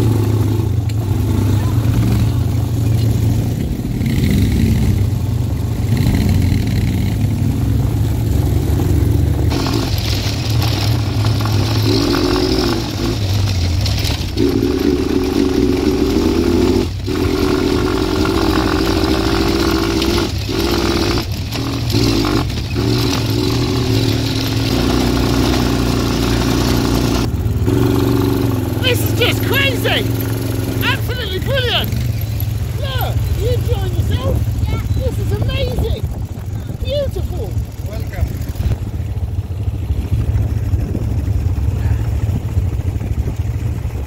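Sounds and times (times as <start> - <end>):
quad bike engine running: 0.0 - 44.0.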